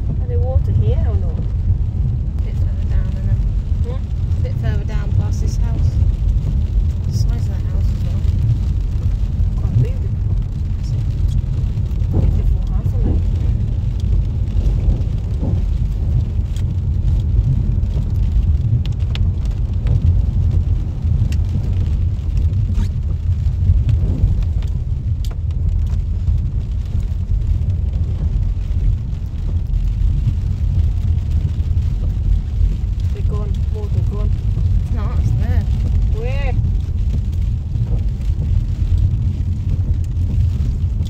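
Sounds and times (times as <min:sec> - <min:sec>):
car driving on wet road: 0:00.0 - 0:41.0.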